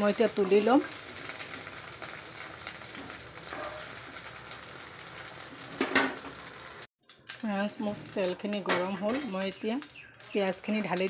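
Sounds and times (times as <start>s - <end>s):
okra sizzling in oil: 0.0s - 11.0s.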